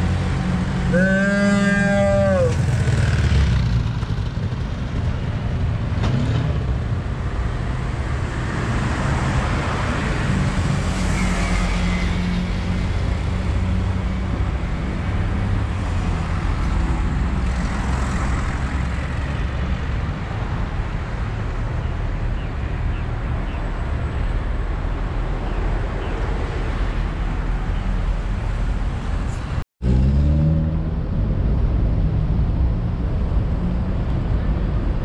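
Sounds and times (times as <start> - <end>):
traffic rumble and hiss: 0.0 - 35.0.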